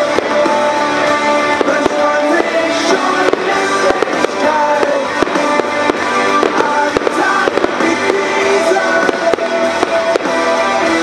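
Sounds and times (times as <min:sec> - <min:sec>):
fireworks cracking and popping: 0:00.0 - 0:11.0
song with held notes: 0:00.0 - 0:11.0.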